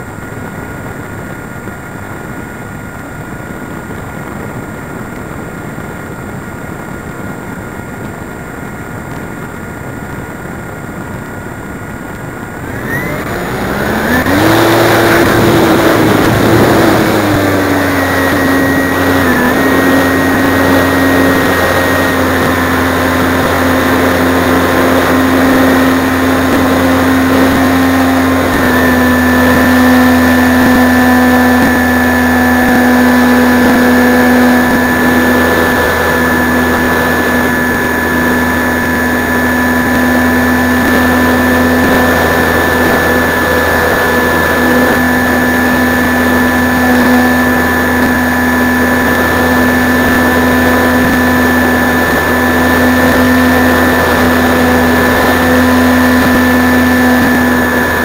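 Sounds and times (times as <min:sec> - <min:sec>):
model plane motor whine: 0:00.0 - 0:58.0.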